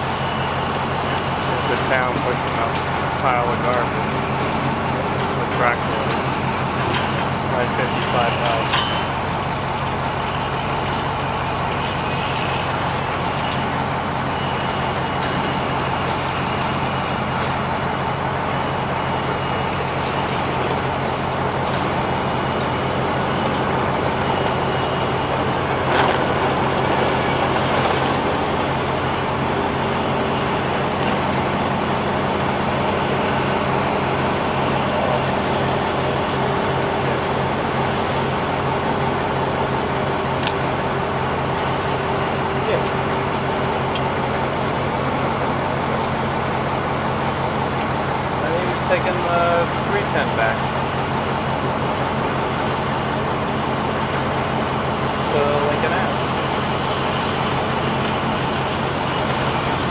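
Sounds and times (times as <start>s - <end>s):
heavy equipment engine droning: 0.0s - 59.9s.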